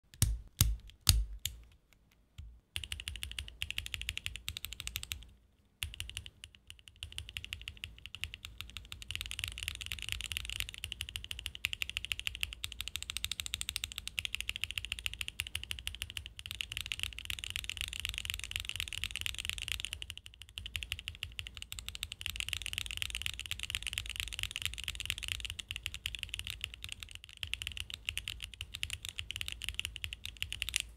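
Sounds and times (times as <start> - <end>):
mechanical keyboard typing: 2.8 - 30.9.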